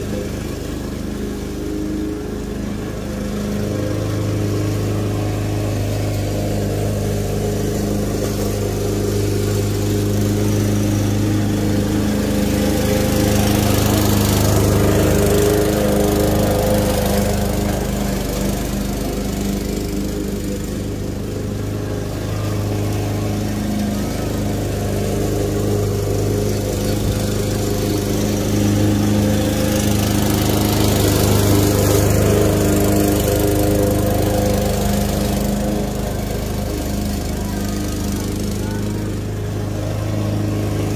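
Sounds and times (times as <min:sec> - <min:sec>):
lawn mower running: 0:00.0 - 0:40.9.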